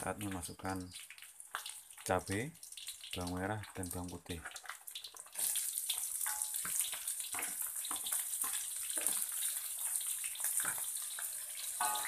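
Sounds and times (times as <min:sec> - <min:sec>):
hot oil sizzling in a wok: 0:00.0 - 0:12.0.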